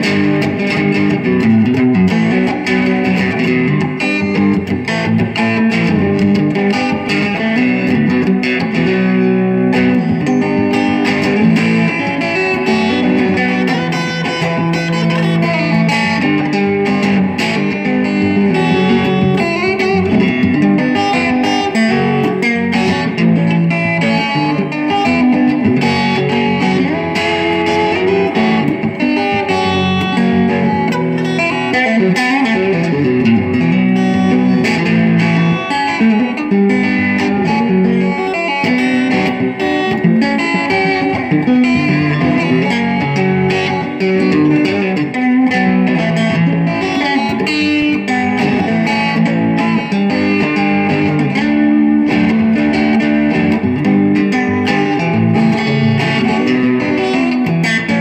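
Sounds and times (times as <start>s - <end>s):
fingerpicked electric guitar: 0.0s - 58.0s.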